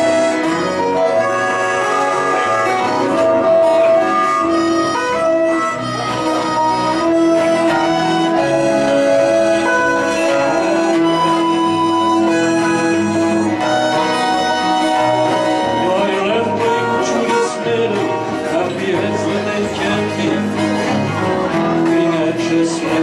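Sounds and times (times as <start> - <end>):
acoustic guitars: 0.0 - 23.0
fiddle: 0.0 - 23.0
harmonica long notes: 0.0 - 23.0
strummed acoustic guitar: 0.0 - 23.0.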